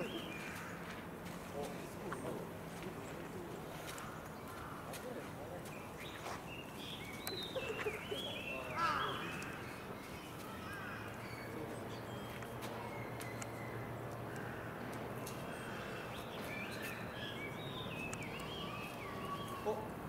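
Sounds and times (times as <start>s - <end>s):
faint distant voices: 0.0s - 20.0s.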